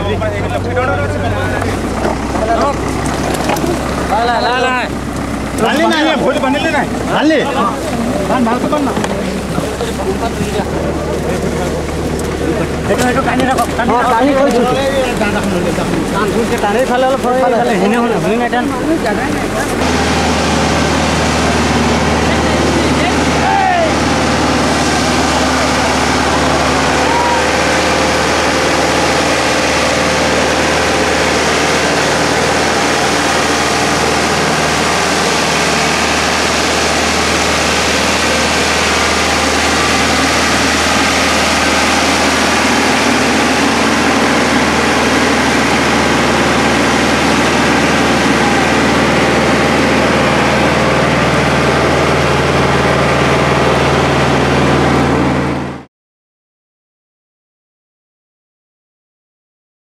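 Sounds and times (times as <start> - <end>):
outdoor noise: 0.0 - 55.9
tractor engine running: 0.0 - 55.9.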